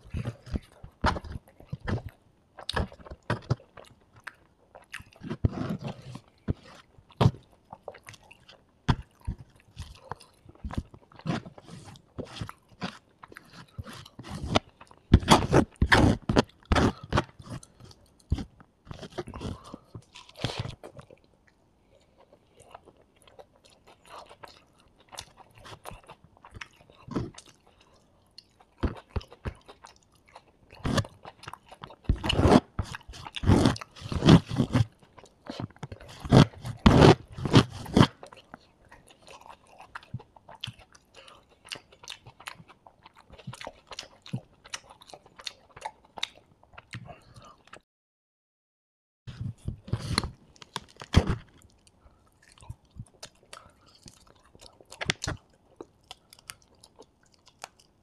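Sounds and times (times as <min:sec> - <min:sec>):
chewing and crunching food: 0:00.0 - 0:47.8, 0:49.3 - 0:58.0.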